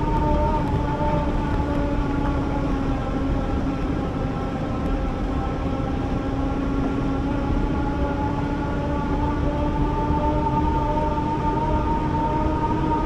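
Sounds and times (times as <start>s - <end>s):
wind and tyre rumble: 0.0s - 13.0s.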